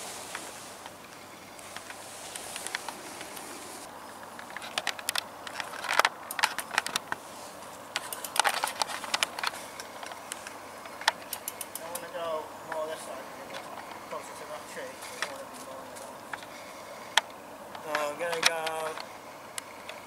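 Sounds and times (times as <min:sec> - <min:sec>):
bike clicking and rattling: 0:00.0 - 0:20.0.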